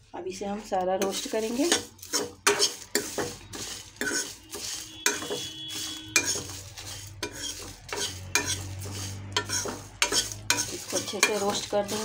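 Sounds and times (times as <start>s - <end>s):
metal spoon scraping pan: 1.0s - 12.0s.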